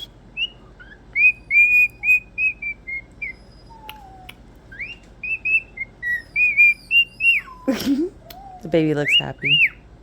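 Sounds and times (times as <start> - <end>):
pet bird whistling: 0.0 - 9.9.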